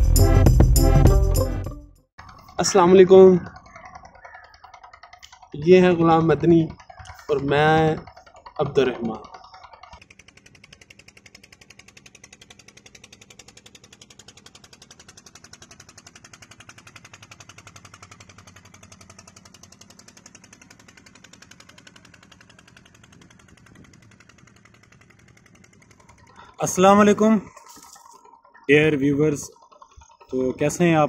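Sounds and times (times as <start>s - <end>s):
boat engine puttering: 0.0s - 31.0s.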